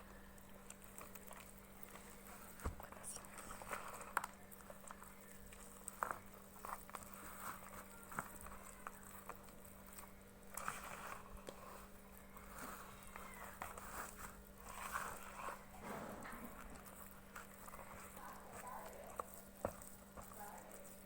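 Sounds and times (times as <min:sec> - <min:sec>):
spoon scraping batter in bowl: 0:00.6 - 0:21.0.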